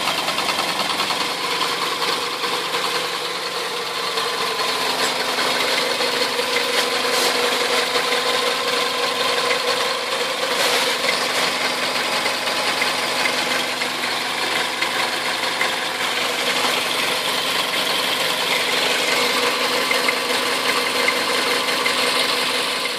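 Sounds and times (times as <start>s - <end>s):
car engine idling: 0.0s - 22.9s
engine knock: 0.0s - 22.9s.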